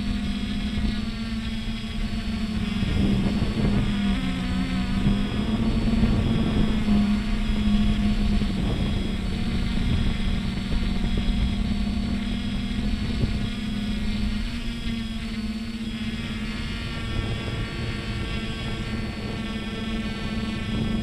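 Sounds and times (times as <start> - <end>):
drone motors humming: 0.0 - 21.0
wind rumble on microphone: 0.0 - 21.0.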